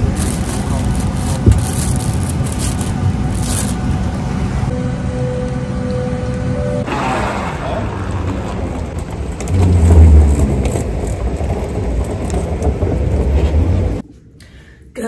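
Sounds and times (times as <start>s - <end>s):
escalator low rumble: 0.0s - 14.0s.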